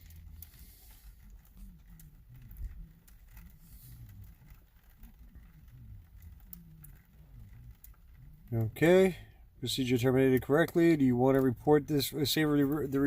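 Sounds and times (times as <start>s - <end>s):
faint car radio bass: 0.0s - 13.0s
faint clicks: 0.0s - 13.0s.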